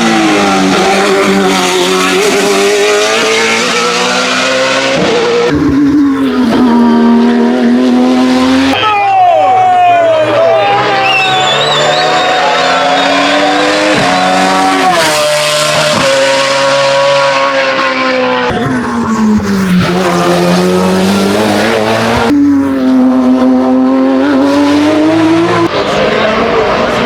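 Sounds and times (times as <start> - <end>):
race car engine at full throttle: 0.0 - 27.0.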